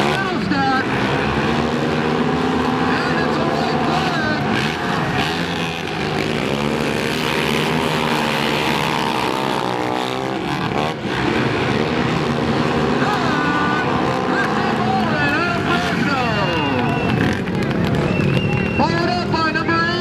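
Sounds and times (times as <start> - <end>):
quad engines revving: 0.0 - 20.0.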